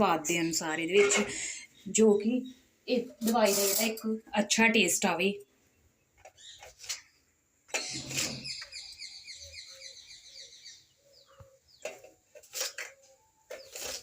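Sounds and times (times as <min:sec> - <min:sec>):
small birds twittering: 0:00.2 - 0:04.2, 0:05.2 - 0:14.0.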